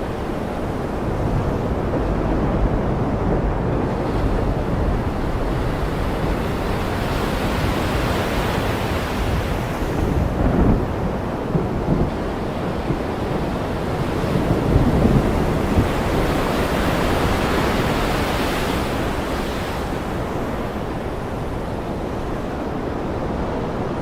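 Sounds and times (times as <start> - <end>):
ocean surf washing in: 0.0 - 24.0.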